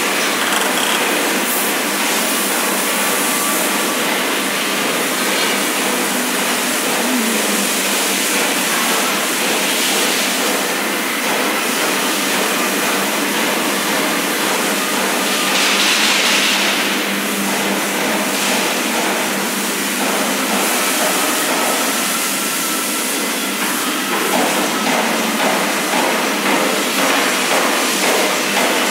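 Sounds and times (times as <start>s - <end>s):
factory machinery whirring: 0.0s - 28.9s.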